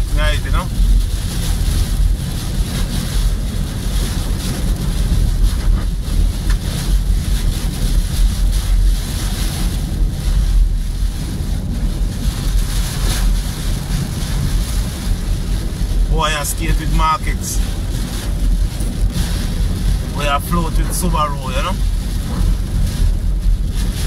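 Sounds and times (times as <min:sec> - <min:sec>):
deep rumble: 0:00.0 - 0:24.0
heavy rain on car: 0:00.0 - 0:24.0
wet road noise: 0:00.0 - 0:24.0.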